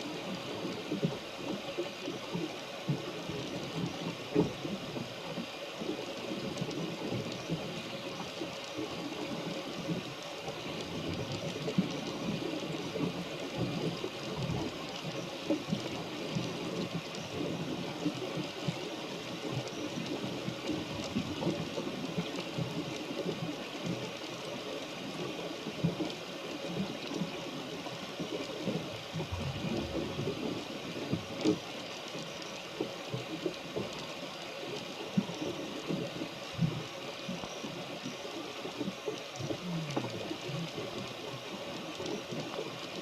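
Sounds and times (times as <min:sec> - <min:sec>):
rain and water washing around boat: 0:00.0 - 0:43.0.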